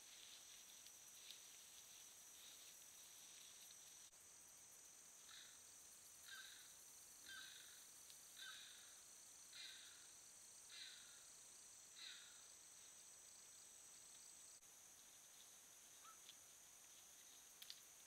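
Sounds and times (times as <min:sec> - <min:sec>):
night insect chorus: 0:00.0 - 0:18.0.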